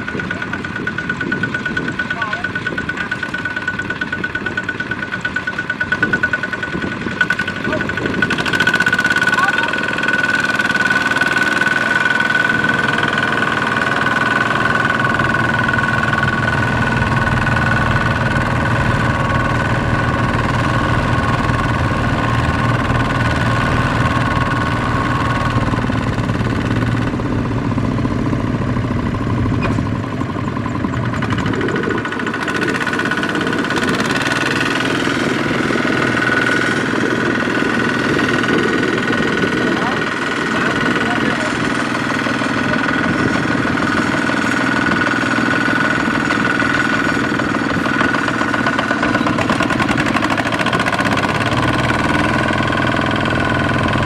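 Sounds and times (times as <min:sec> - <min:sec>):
walking tractor diesel engine: 0:00.0 - 0:54.0.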